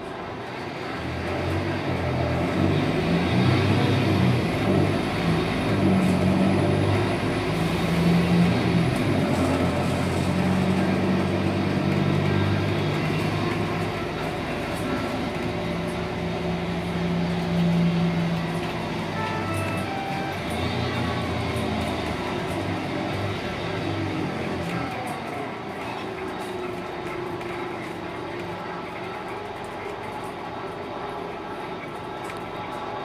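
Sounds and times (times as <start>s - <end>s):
bus cabin rolling noise: 0.0s - 33.0s
bus diesel engine: 0.0s - 33.0s.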